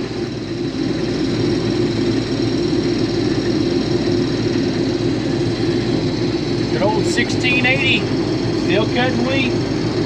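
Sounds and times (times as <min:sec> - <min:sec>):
combine harvester drone: 0:00.0 - 0:10.0.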